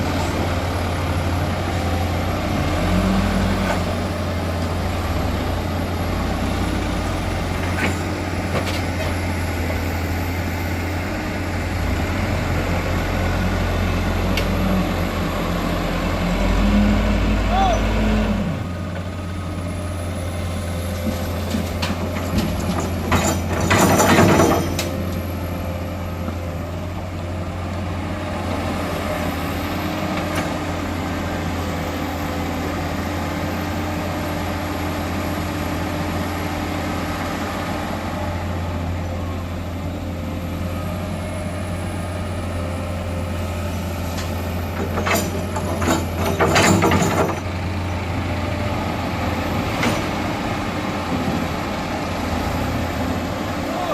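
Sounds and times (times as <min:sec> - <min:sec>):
diesel machinery droning: 0:00.0 - 0:53.9.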